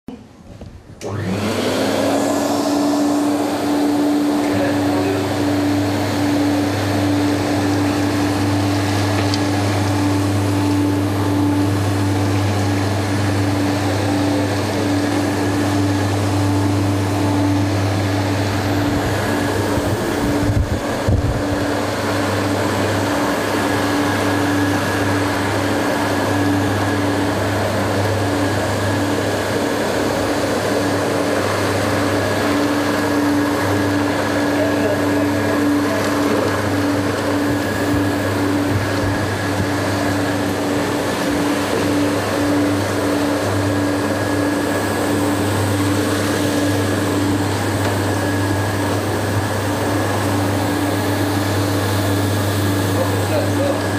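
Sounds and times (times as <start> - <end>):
vacuum sweeper motor whir: 0.6 - 53.9.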